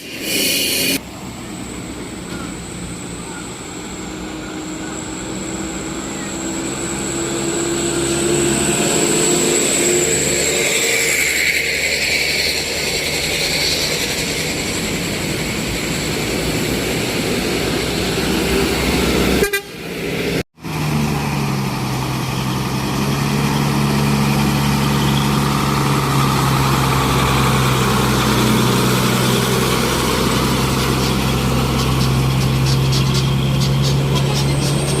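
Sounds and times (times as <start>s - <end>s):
vehicle engines running: 0.0s - 35.0s.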